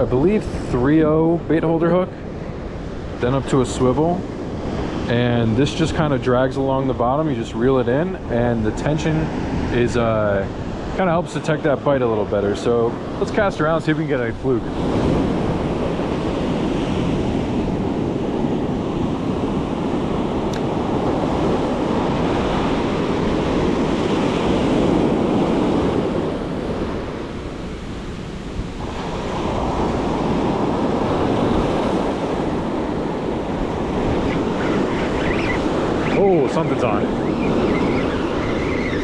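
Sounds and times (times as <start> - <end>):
ocean surf breaking on beach: 0.0 - 39.0
wind buffeting microphone: 0.0 - 39.0.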